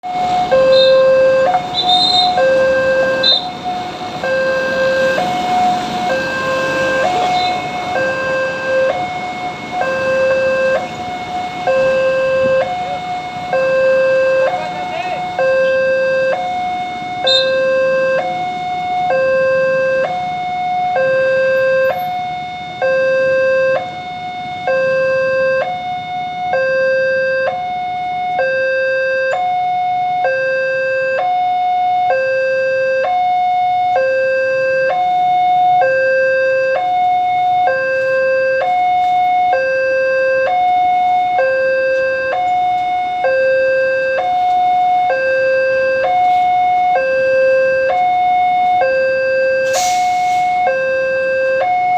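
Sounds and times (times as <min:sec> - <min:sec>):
railroad crossing two-tone alarm: 0:00.0 - 0:51.9.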